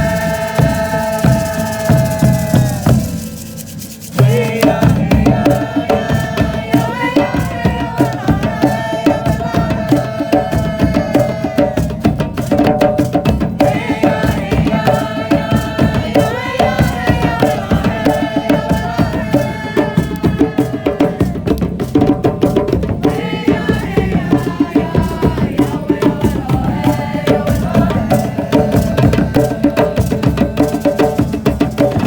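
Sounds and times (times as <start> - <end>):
fast hand drum percussion: 0.0 - 32.0.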